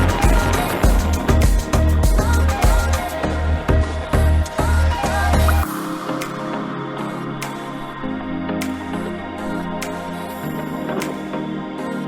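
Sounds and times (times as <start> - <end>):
slow new-age music: 0.0 - 12.0.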